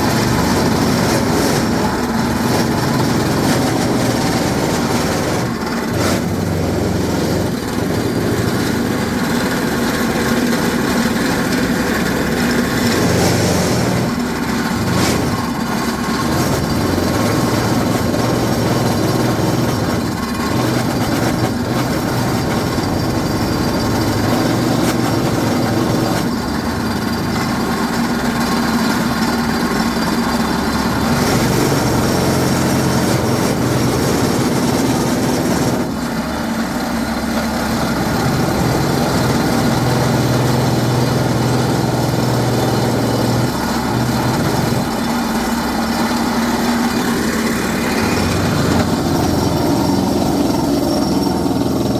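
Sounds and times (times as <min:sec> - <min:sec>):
drilling rig engine droning: 0:00.0 - 0:51.9.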